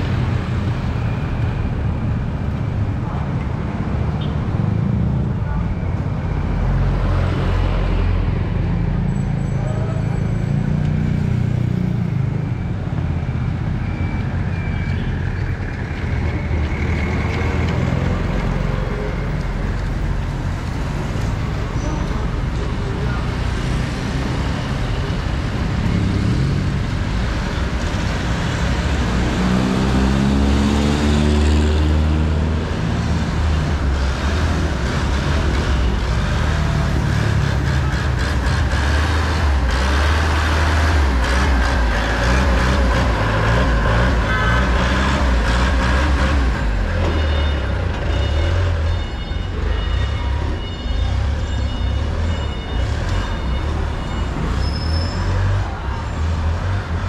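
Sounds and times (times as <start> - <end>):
traffic rumble: 0.0 - 57.0.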